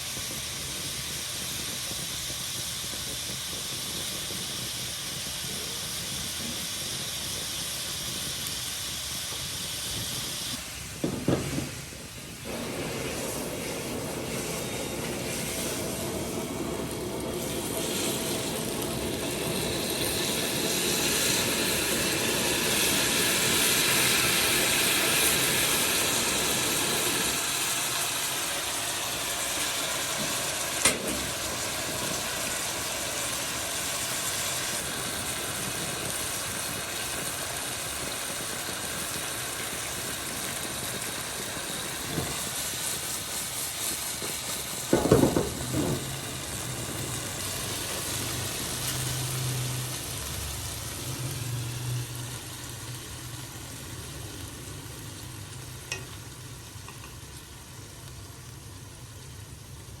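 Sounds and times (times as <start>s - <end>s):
food sizzling in hot oil: 0.0s - 60.0s.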